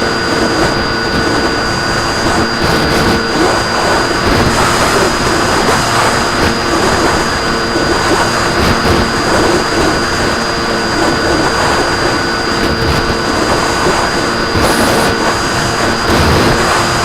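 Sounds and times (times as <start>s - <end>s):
heavy wind rush: 0.0s - 17.0s
model plane motor droning: 0.0s - 17.0s
thin high whine: 0.0s - 17.0s.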